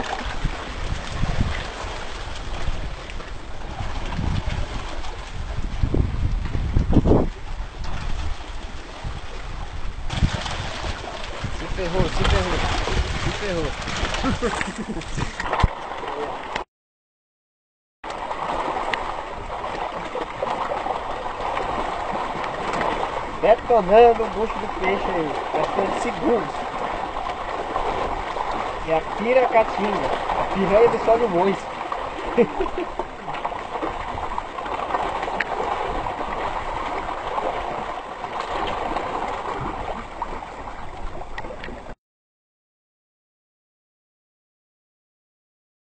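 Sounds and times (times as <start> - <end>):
water churning and splashing: 0.0 - 16.6, 18.0 - 42.0.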